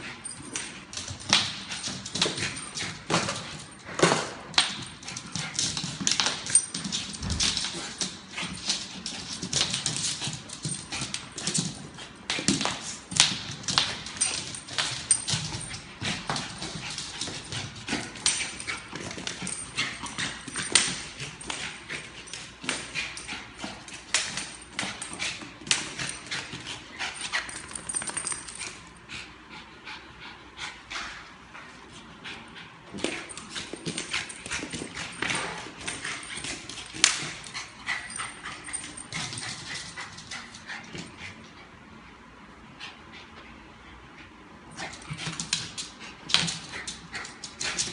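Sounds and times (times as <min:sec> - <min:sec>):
dog claws on tiled floor: 0:00.0 - 0:29.2, 0:30.6 - 0:41.6, 0:44.7 - 0:47.9.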